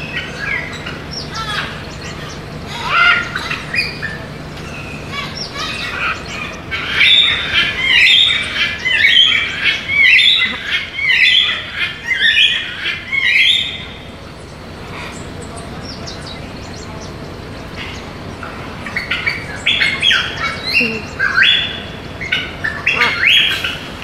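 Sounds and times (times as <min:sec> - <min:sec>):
macaw squawking: 0:00.0 - 0:14.1, 0:14.8 - 0:24.0.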